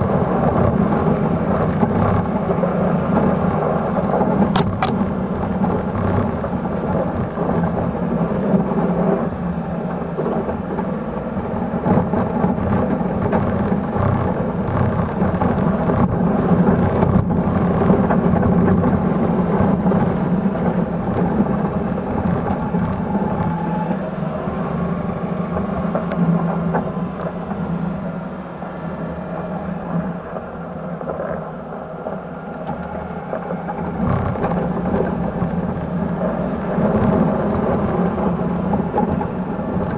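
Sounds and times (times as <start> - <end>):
small truck engine rumbling: 0.0 - 39.9
snow rushing along plow blade: 0.0 - 39.9.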